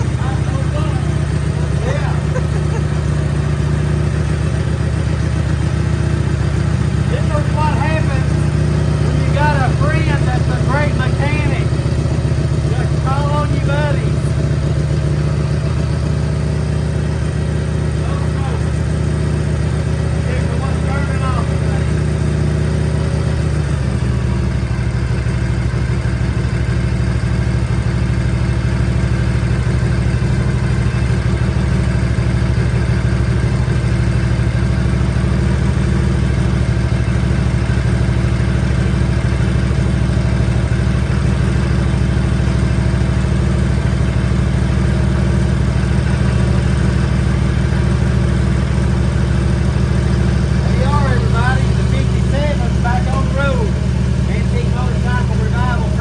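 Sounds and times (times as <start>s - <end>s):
v-twin engine idling: 0.0s - 56.0s.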